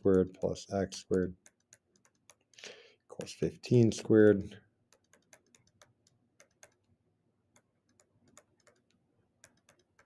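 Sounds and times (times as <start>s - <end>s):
stylus tapping on tablet screen: 0.0s - 3.4s, 4.8s - 10.0s.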